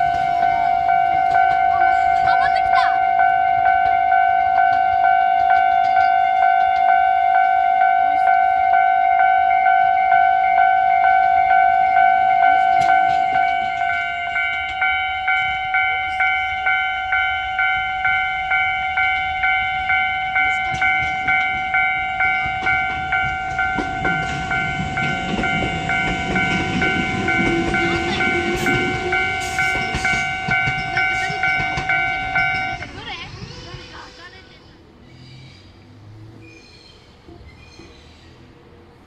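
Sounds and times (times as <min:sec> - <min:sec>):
level crossing alarm dinging: 0:00.0 - 0:34.6
train wheels rumbling: 0:00.0 - 0:39.0
train motor whine: 0:03.2 - 0:34.7.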